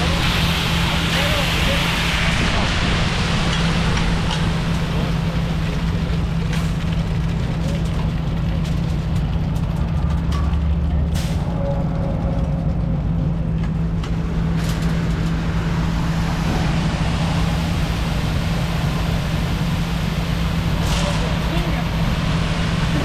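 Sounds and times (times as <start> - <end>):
heavy vehicle engine humming: 0.0 - 23.0.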